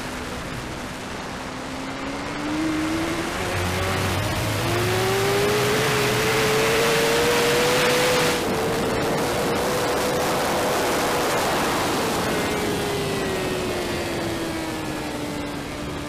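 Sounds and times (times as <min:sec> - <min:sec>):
racing motorcycle engine: 0:00.0 - 0:16.0
steady rushing noise: 0:00.0 - 0:16.0.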